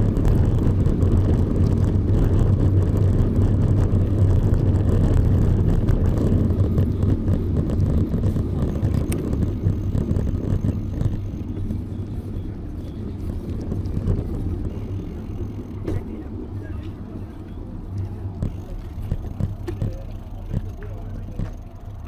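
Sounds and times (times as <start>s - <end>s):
bicycle road noise: 0.0s - 22.0s
wind rumble on microphone: 0.0s - 22.0s.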